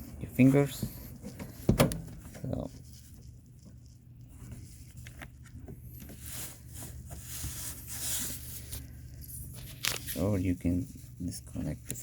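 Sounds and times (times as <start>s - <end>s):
scratchy plastic rustle: 0.9s - 12.0s.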